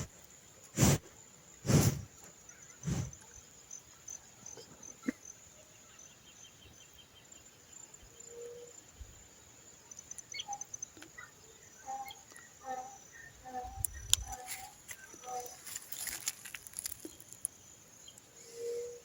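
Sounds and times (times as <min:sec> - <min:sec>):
insects chirping faintly: 0:00.0 - 0:19.0.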